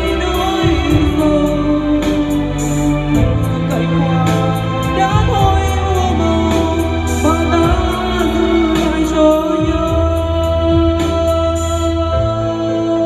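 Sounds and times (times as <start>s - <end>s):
woman singing into microphone: 0.0s - 2.8s, 3.8s - 13.0s
backing track with beat: 0.0s - 13.0s.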